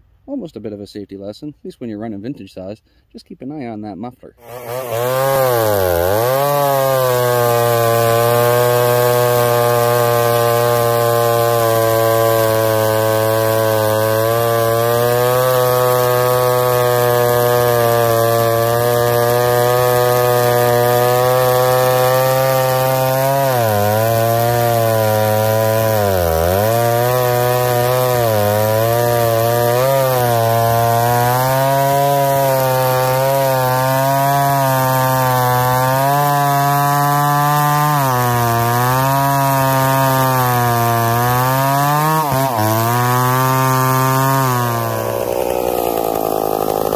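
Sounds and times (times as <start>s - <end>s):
chainsaw cutting wood: 4.4s - 46.9s.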